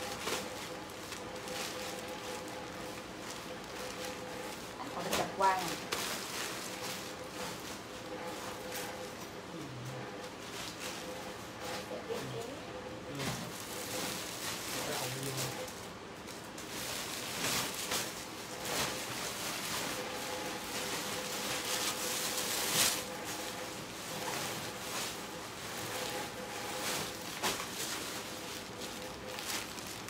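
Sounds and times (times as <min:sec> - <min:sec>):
plastic bags crinkling: 0:00.0 - 0:09.0, 0:13.1 - 0:30.0.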